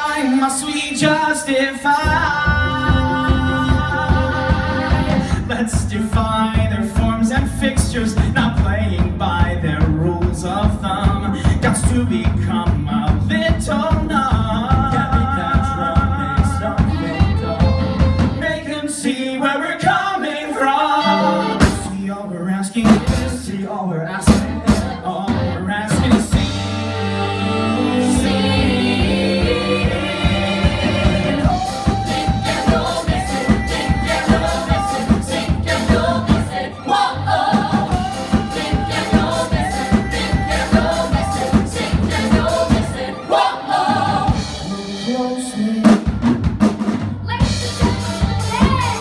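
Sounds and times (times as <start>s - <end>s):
male voices singing: 0.0s - 26.6s, 27.4s - 46.1s
band with drum kit: 0.0s - 49.0s.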